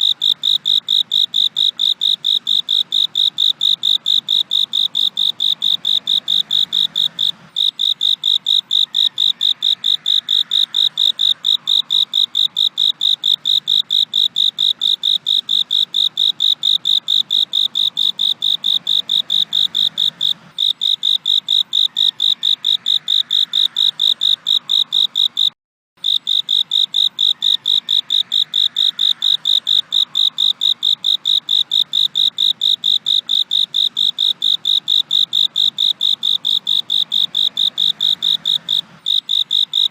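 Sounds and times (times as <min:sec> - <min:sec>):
cricket chirping trill: 0:00.0 - 0:39.9.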